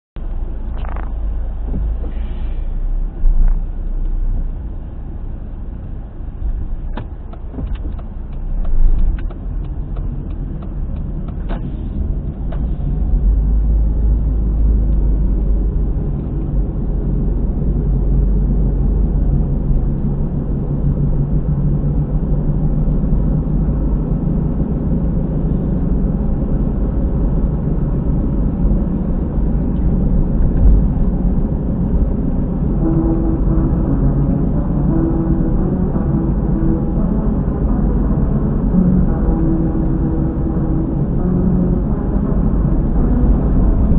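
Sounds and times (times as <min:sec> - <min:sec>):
tyre and road rumble: 0:00.2 - 0:04.8, 0:06.2 - 0:43.9
abnormal noise from rear tyre: 0:00.2 - 0:43.9.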